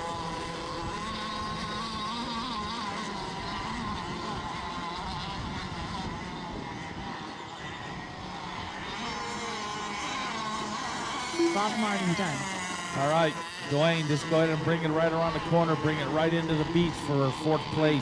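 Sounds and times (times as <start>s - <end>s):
model boat motors whining: 0.0s - 18.0s.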